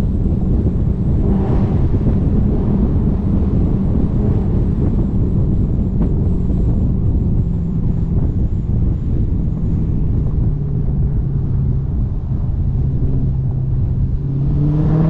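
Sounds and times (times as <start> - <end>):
car engine rumbling: 0.0 - 15.0
wind buffeting microphone: 0.0 - 15.0.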